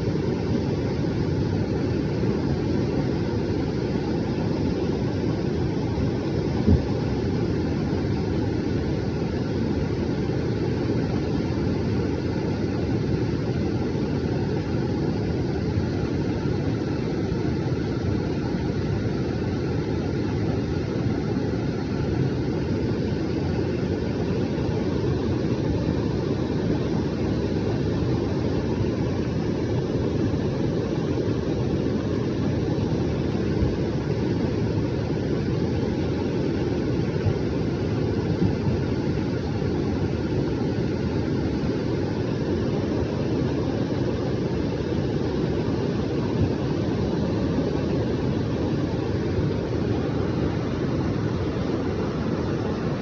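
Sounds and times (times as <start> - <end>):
floodwater rushing in a torrent: 0.0 - 53.0.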